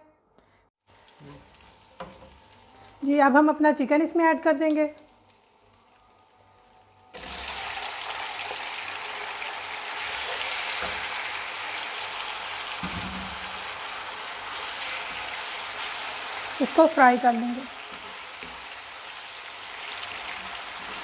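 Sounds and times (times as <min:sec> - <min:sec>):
chicken sizzling in oil: 0:00.8 - 0:21.0.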